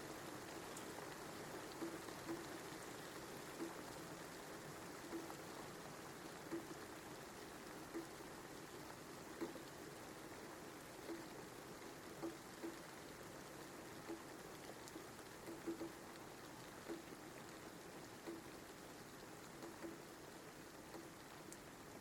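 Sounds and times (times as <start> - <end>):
rain hissing: 0.0 - 22.0.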